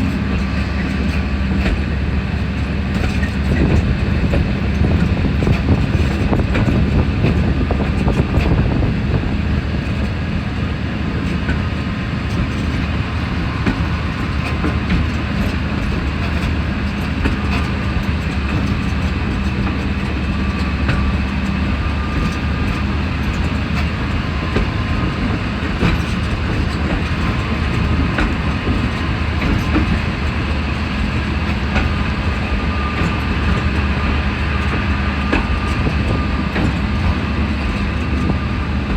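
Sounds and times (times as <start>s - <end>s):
diesel locomotive engine drone: 0.0s - 38.9s
wheels clicking over rails: 0.0s - 38.9s.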